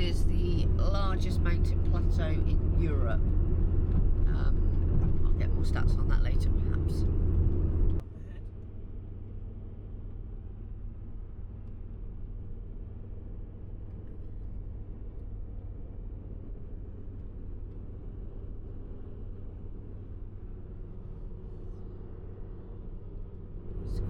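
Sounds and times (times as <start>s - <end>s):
road noise: 0.0s - 11.6s, 12.9s - 24.0s
vehicle engine rumble: 0.0s - 24.0s.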